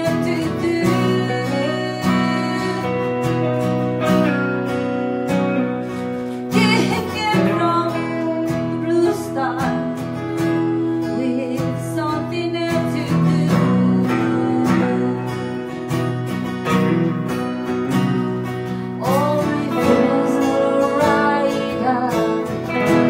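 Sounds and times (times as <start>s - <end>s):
woman singing: 0.0s - 3.6s, 6.4s - 16.1s, 16.8s - 23.0s
electric guitar: 0.0s - 23.0s
strummed acoustic guitar: 0.0s - 23.0s.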